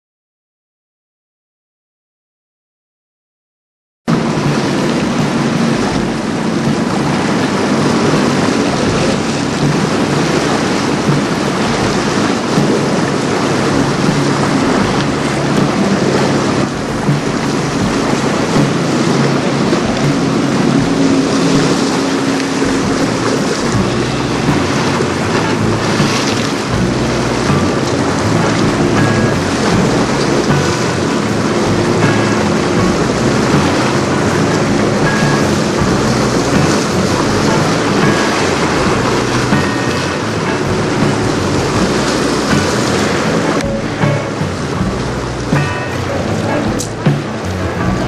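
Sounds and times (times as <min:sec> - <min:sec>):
wind buffeting microphone: 0:04.1 - 0:48.0.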